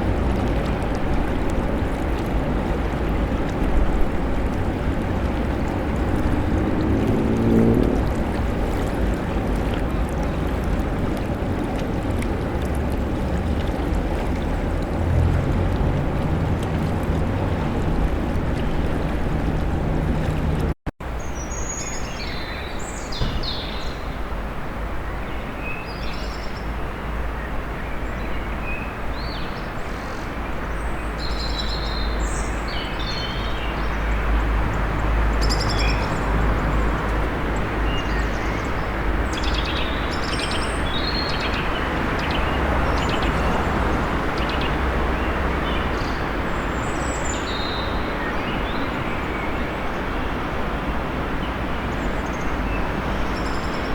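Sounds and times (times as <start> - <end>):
low rumble of city traffic: 0.0 - 53.9.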